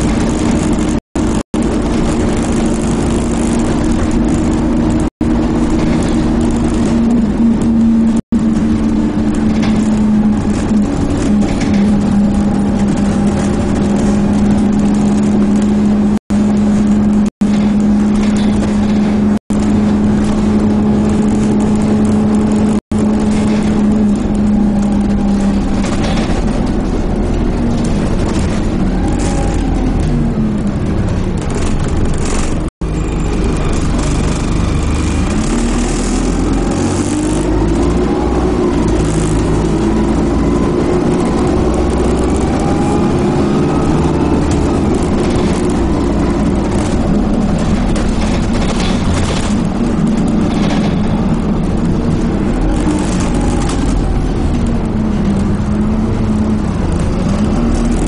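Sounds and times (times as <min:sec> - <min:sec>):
bus engine droning: 0:00.0 - 0:58.0.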